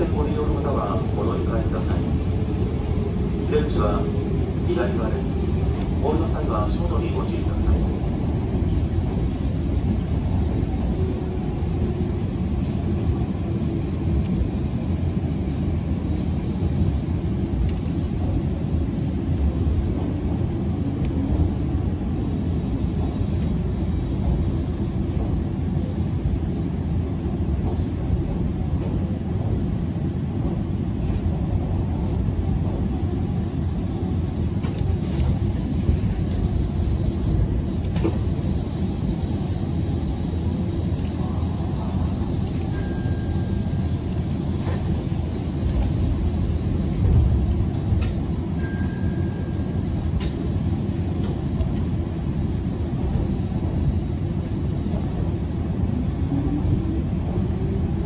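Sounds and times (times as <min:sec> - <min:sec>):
train wheels and motor rumbling: 0:00.0 - 0:58.0.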